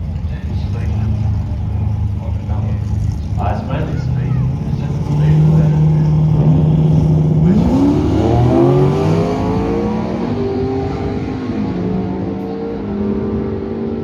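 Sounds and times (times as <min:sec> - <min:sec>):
drag racing car accelerating: 0:00.0 - 0:14.0.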